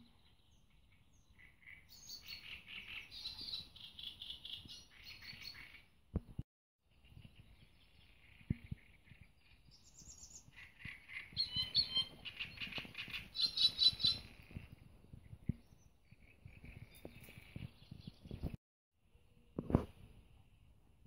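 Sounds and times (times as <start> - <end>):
songbird singing: 0.0 - 6.3, 6.9 - 18.6.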